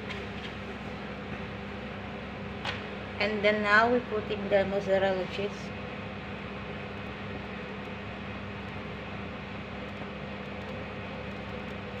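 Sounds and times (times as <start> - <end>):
background hum with hiss: 0.0 - 12.0.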